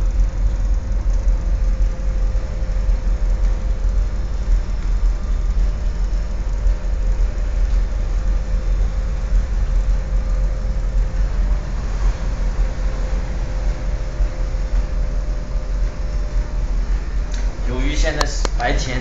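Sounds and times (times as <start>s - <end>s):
faint steady hum: 0.0s - 19.0s
low rumble of ship machinery: 0.0s - 19.0s.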